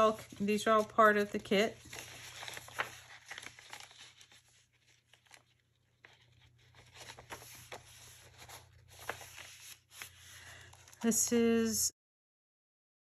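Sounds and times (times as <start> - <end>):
paper rustling and tapping: 0.0 - 11.1.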